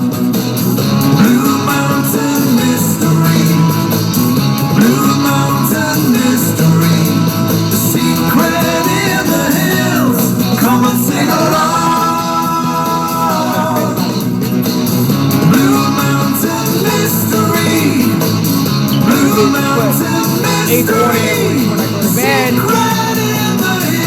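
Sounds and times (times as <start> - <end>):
rock and roll song: 0.0 - 24.0.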